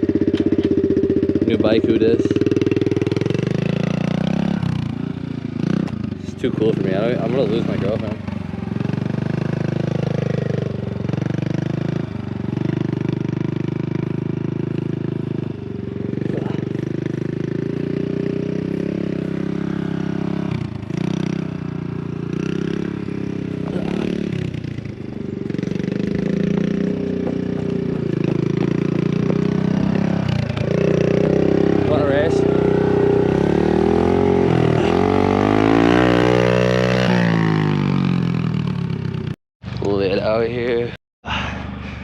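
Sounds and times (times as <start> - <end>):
dirt bike engine under throttle: 0.0 - 42.0.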